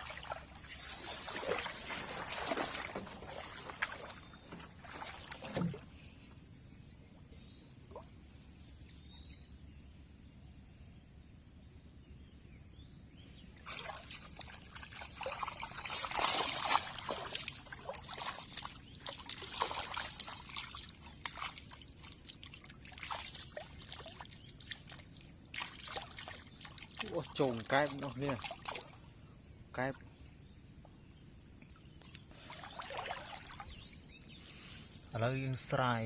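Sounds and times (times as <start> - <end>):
water splashing and trickling: 0.0 - 9.8, 13.6 - 30.2, 31.8 - 36.0.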